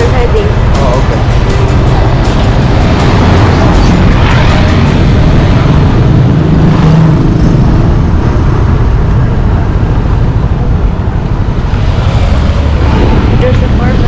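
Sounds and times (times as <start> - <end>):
motorbike engine: 0.0 - 14.0
road noise: 0.0 - 14.0.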